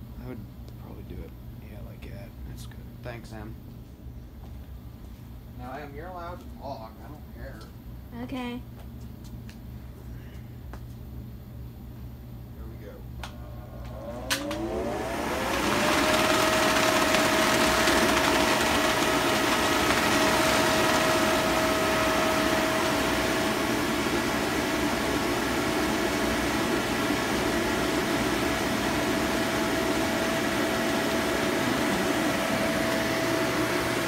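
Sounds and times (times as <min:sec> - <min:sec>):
blower fan running: 0:00.0 - 0:34.0.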